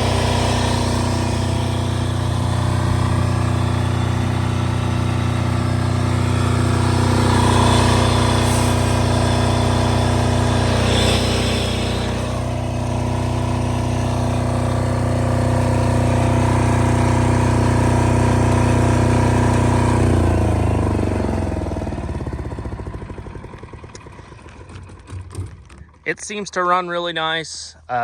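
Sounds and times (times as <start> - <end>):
diesel generator running: 0.0 - 28.0.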